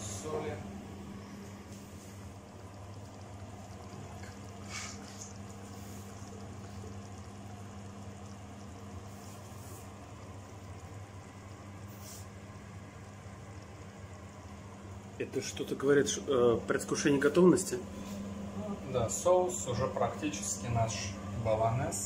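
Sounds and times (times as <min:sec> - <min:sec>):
sauce simmering in pot: 0:00.0 - 0:22.0
steady low hum: 0:00.0 - 0:22.0.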